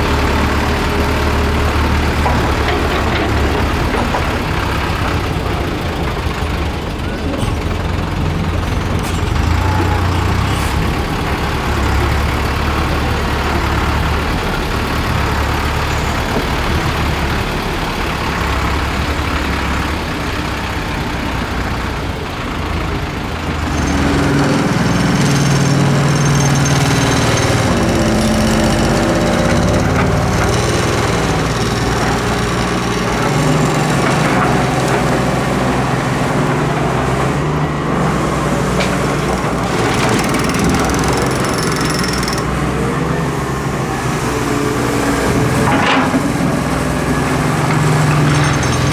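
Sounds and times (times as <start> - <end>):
dump truck diesel engine running: 0.0 - 48.9
excavator diesel engine working: 0.0 - 48.9.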